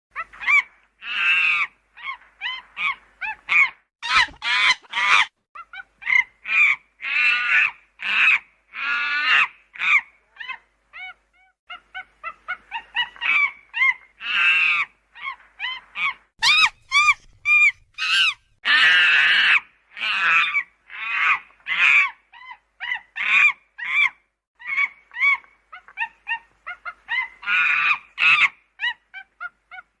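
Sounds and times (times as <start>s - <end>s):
monkeys calling: 0.2s - 19.1s, 20.0s - 30.0s.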